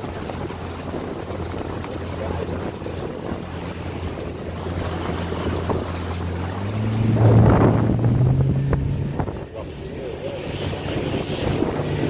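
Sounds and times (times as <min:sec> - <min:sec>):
speedboat engine running: 0:00.0 - 0:12.0
wind and water spray rushing: 0:00.0 - 0:12.0.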